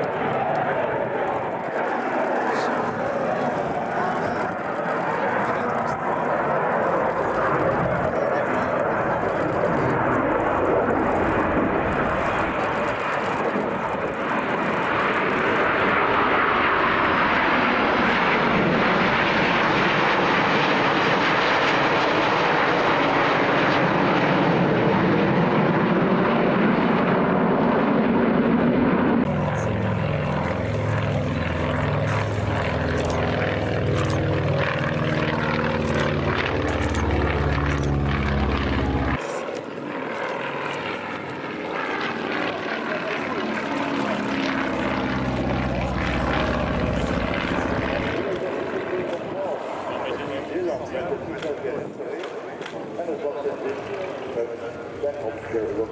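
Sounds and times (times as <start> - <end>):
aircraft engine noise: 0.0 - 55.9.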